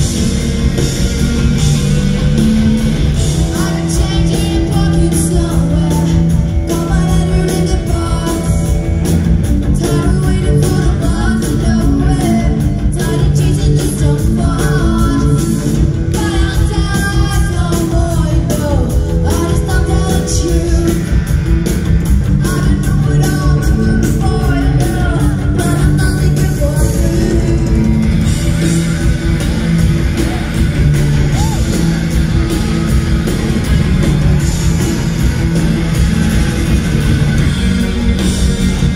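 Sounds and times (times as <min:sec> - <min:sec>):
bass guitar: 0:00.0 - 0:38.9
drums: 0:00.0 - 0:38.9
electric guitars: 0:00.0 - 0:38.9
keyboards: 0:00.0 - 0:38.9.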